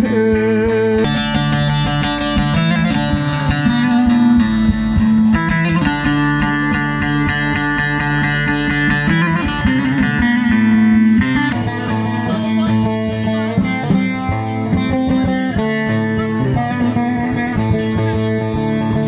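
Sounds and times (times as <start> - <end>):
plucked long-necked lute melody: 0.0 - 19.0.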